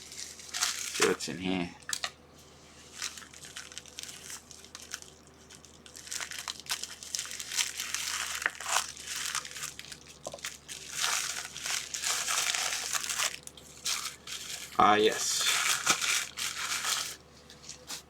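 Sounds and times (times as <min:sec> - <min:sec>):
plastic packaging crinkling: 0:00.0 - 0:02.1, 0:02.7 - 0:18.0.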